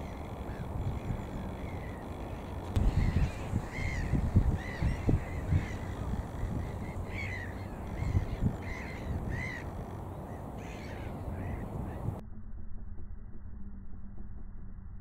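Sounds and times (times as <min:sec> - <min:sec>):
gulls calling: 0:00.0 - 0:12.2
low rumbling on microphone: 0:00.0 - 0:15.0.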